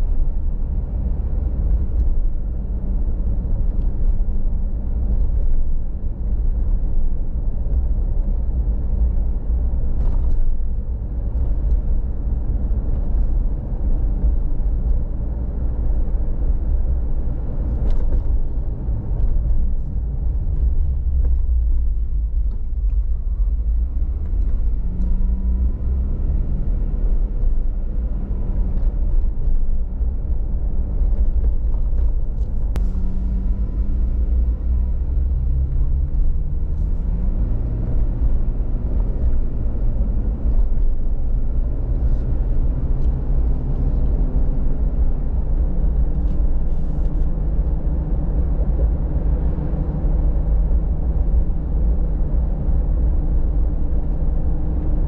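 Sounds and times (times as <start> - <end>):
car engine hum: 0.0 - 55.0
wind and tyre rumble: 0.0 - 55.0.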